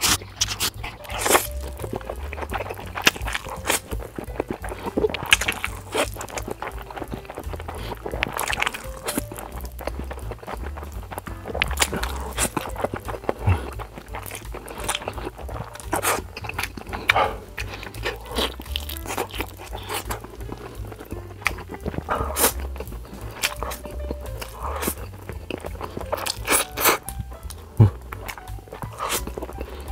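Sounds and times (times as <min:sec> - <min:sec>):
background music: 0:00.0 - 0:29.9
slurping noodles and chewing: 0:00.0 - 0:29.9.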